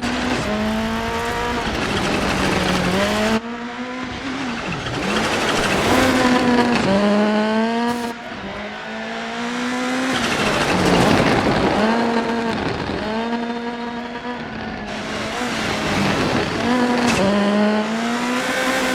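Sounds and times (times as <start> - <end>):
tyre noise rush: 0.0 - 3.4, 4.2 - 18.9
rally car engine revving: 0.0 - 18.9.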